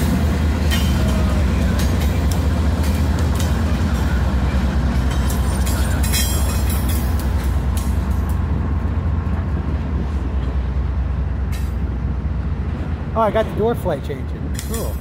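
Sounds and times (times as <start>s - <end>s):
diesel locomotive engine drone: 0.0s - 15.0s
train rumble: 0.0s - 15.0s.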